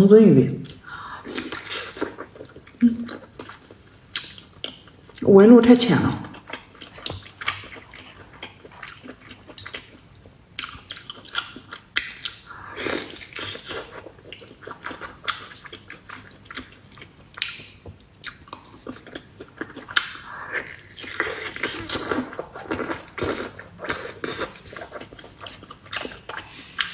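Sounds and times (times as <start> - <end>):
wet chewing sounds: 0.7 - 5.2, 6.2 - 26.9.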